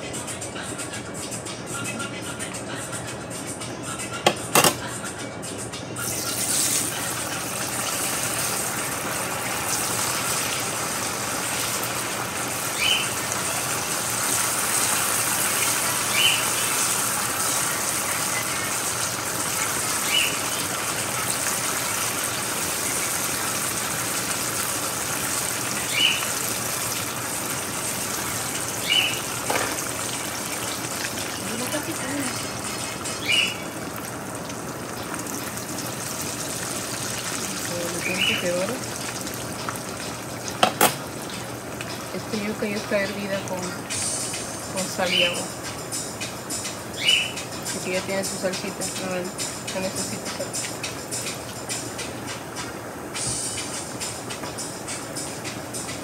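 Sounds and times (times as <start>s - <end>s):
oil sizzling in a pan: 6.0s - 55.9s.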